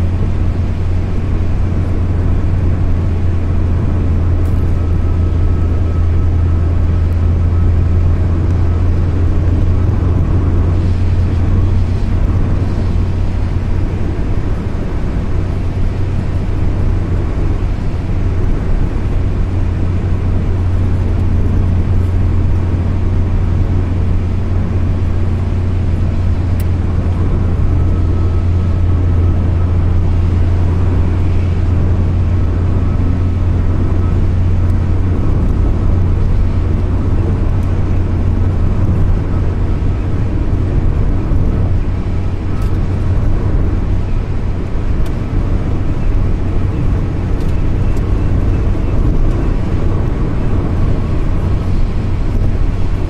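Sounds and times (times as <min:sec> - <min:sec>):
car engine and tyre drone: 0:00.0 - 0:53.0.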